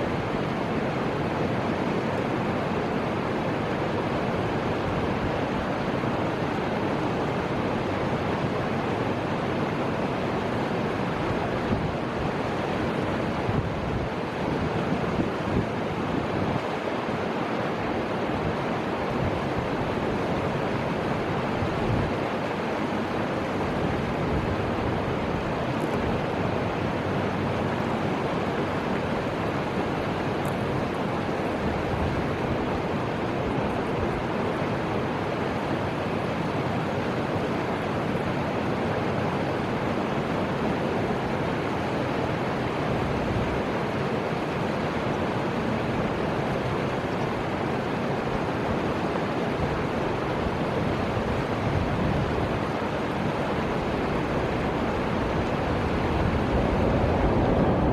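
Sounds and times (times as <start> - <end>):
river water rushing: 0.0 - 57.9
wind: 0.0 - 57.9.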